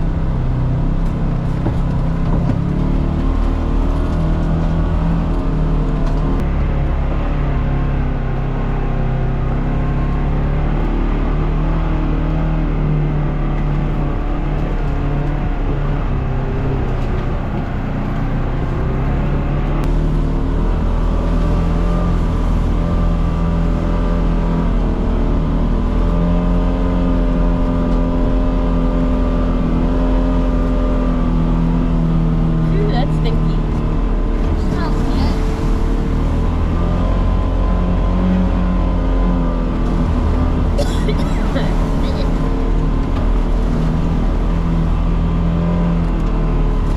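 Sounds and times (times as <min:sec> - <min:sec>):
off-road vehicle engine driving: 0:00.0 - 0:46.9.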